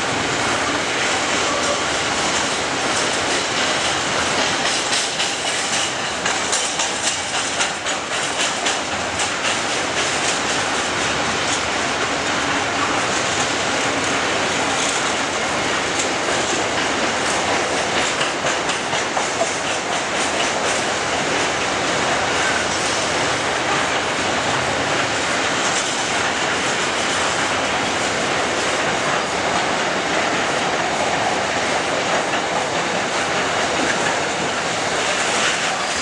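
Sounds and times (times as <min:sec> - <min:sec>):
train wheels clacking over joints: 0:00.1 - 0:36.0.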